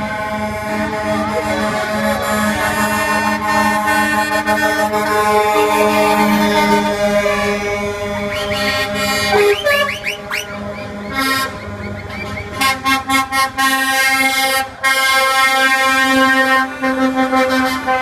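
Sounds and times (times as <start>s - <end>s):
truck air horns blasting: 0.0s - 18.0s.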